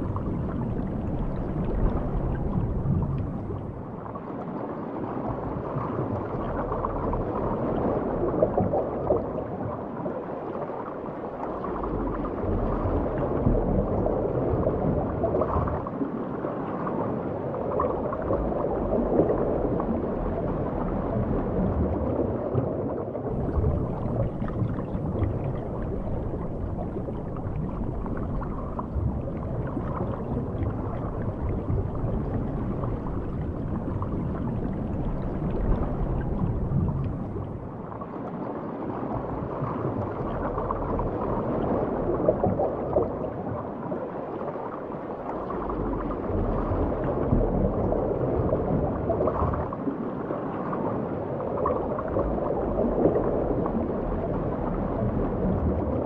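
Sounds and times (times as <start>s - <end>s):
low underwater rumble: 0.0s - 16.2s, 17.5s - 56.0s
underwater gurgling water: 0.0s - 56.0s.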